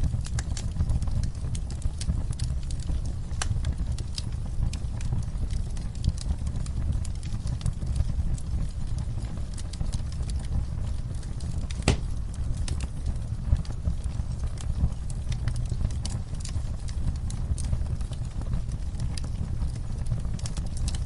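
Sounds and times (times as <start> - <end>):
fire popping and snapping: 0.0 - 21.0
wood fire rumbling: 0.0 - 21.0.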